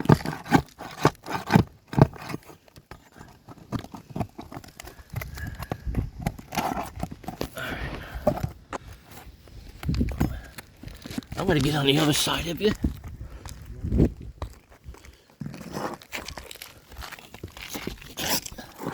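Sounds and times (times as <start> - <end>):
quiet scraping and handling: 0.1 - 18.9.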